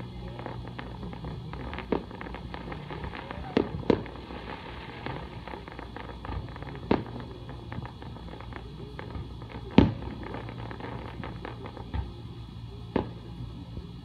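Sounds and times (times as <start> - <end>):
firework bangs: 0.0 - 14.0
firework crackling: 0.0 - 14.0.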